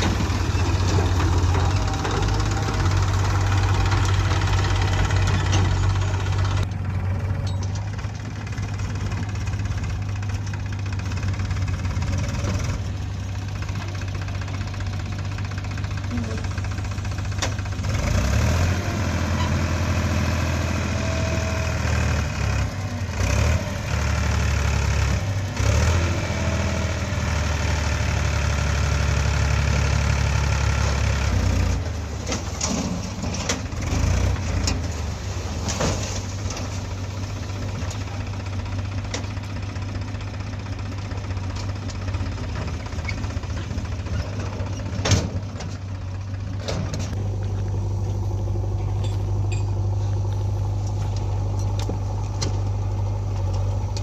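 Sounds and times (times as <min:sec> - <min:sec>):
diesel backhoe engine running: 0:00.0 - 0:54.0.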